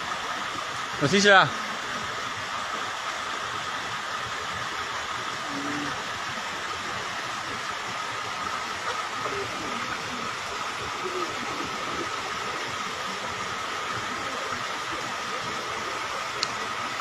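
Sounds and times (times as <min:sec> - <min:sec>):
stream water over rocks: 0:00.0 - 0:17.0.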